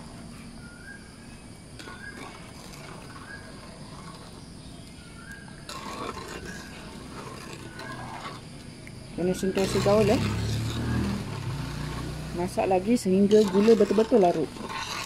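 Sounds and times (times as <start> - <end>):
metal spoon stirring pot: 1.8 - 8.6, 9.2 - 15.0
syrup bubbling: 1.8 - 15.0.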